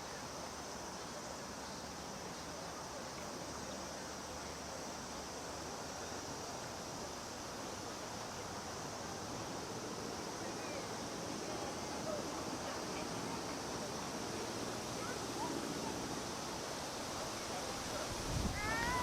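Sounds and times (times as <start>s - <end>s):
cicadas chorus: 0.0s - 19.0s
faint voices: 0.0s - 19.0s
wind: 0.0s - 19.0s.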